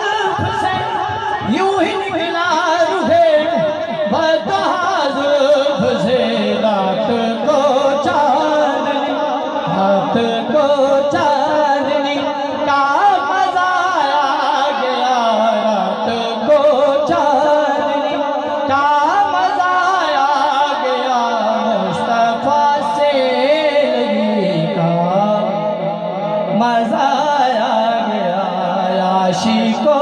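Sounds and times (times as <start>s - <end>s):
man singing over loudspeaker: 0.0s - 30.0s.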